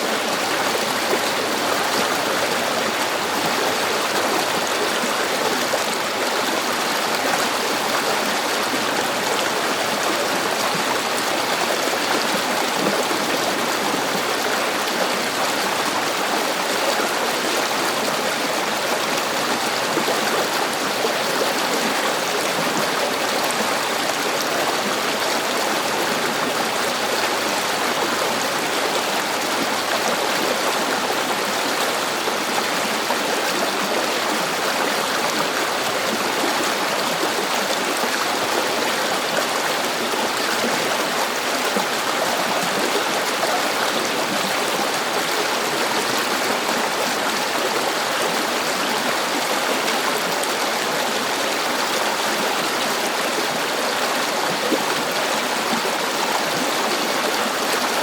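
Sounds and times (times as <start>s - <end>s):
river flowing: 0.0s - 58.0s.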